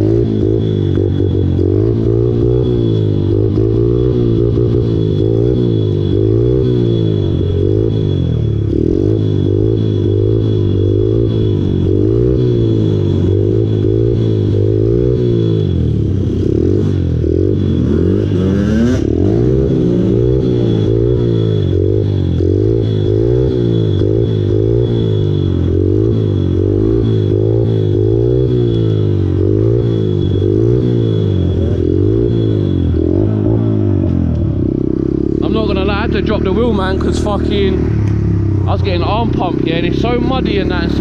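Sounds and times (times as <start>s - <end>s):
pit bike engine revving: 0.0s - 41.0s.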